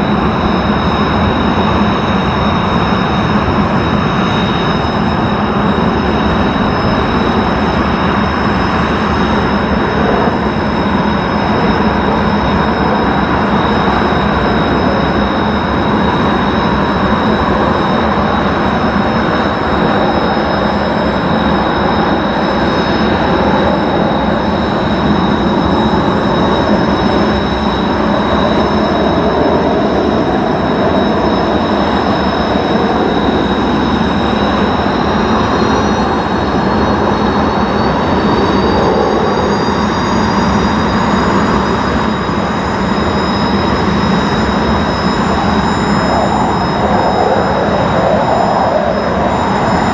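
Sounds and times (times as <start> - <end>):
high steady whine: 0.0 - 49.9
jet engine roaring: 0.0 - 49.9.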